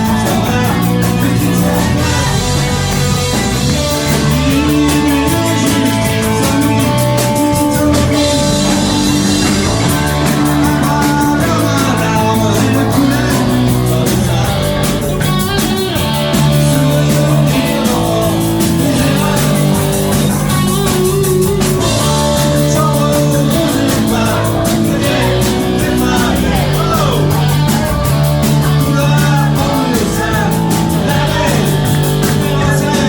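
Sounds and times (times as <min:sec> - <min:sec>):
drum kit beat: 0:00.0 - 0:33.0
electric guitars: 0:00.0 - 0:33.0
person singing: 0:00.0 - 0:33.0.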